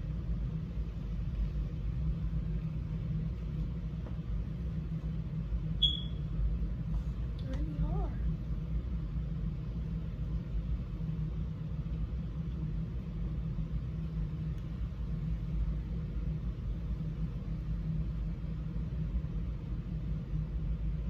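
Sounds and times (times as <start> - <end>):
low rumbling hum: 0.0 - 21.0.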